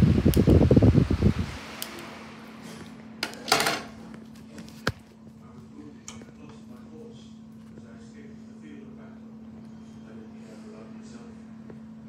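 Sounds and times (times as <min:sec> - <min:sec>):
fan airflow rumbling on microphone: 0:00.0 - 0:12.0
low steady hum: 0:00.0 - 0:12.0.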